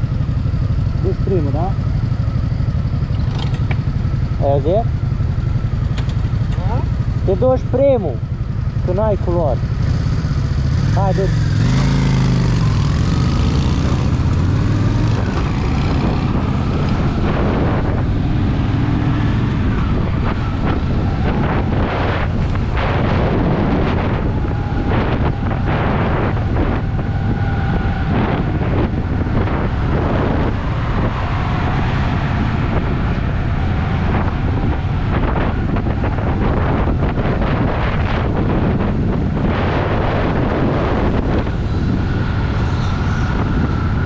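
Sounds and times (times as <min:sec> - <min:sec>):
motorcycle engine running: 0:00.0 - 0:44.0
wind buffeting microphone: 0:00.0 - 0:44.0.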